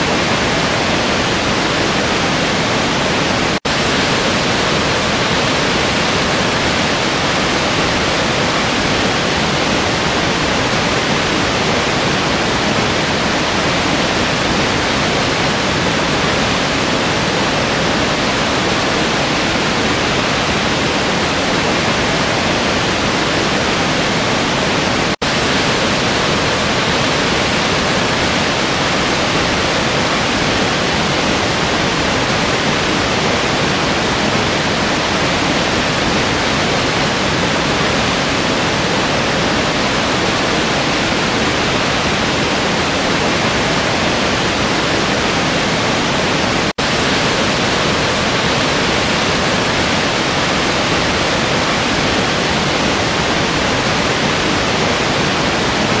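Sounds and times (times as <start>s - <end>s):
waterfall roar: 0.0s - 56.0s.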